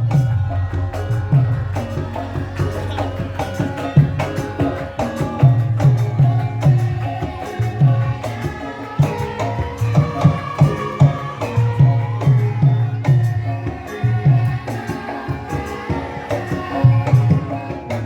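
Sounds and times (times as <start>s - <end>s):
hand drums playing low strokes: 0.0s - 18.0s
ringing gongs and metallophones: 0.0s - 18.0s.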